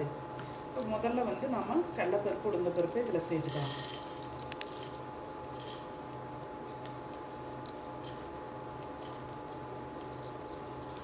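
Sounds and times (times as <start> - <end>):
lentils sizzling in butter: 0.4 - 11.0.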